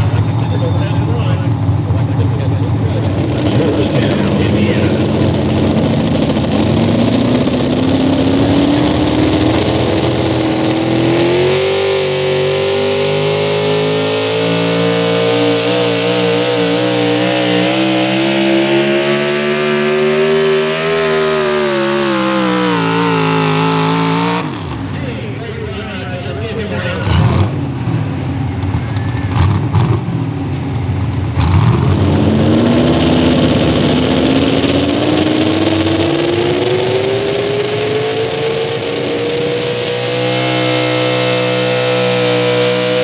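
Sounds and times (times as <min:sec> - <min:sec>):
truck engine at full throttle: 0:00.0 - 0:43.0.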